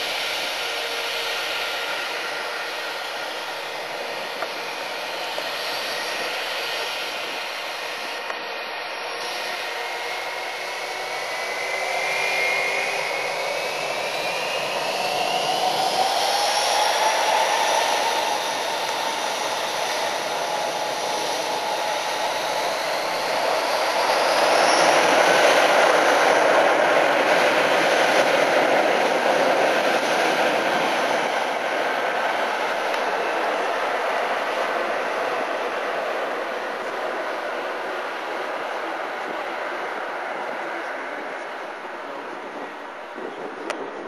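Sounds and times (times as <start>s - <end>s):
jet engines spooling up: 0.0s - 44.0s
rising engine whine: 0.0s - 44.0s.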